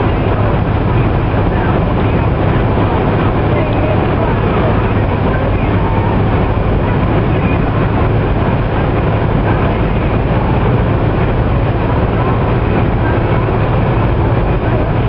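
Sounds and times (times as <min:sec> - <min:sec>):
vehicle cabin road drone: 0:00.0 - 0:15.0.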